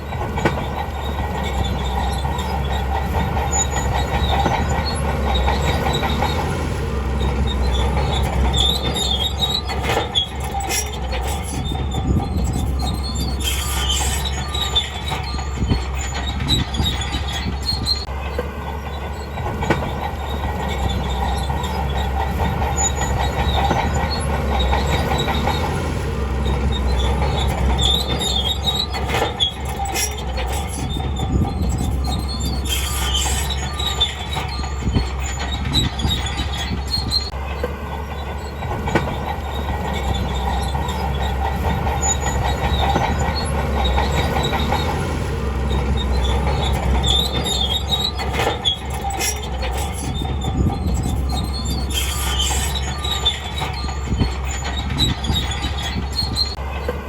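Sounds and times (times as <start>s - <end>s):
bulldozer diesel engine running: 0.0s - 57.0s
steel tracks clanking and squealing: 0.0s - 57.0s.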